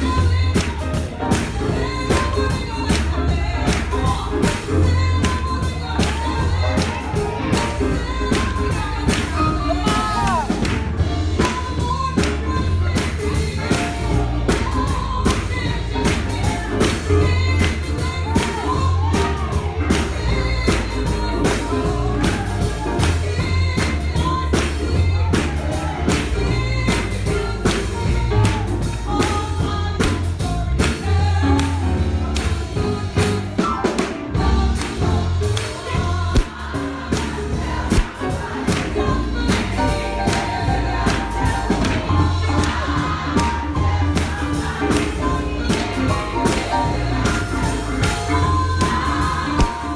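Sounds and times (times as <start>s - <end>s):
deep bass line: 0.0s - 33.6s, 34.4s - 49.9s
steady beat: 0.0s - 33.6s, 34.4s - 49.9s
congregation singing gospel music: 0.0s - 49.9s.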